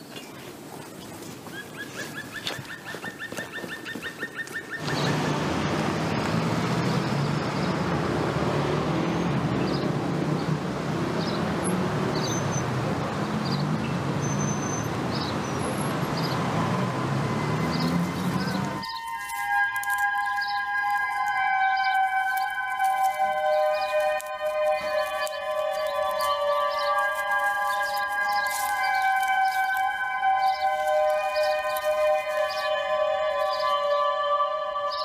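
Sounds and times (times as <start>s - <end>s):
birds chirping: 0.0s - 35.0s
traffic rumble: 0.0s - 35.0s.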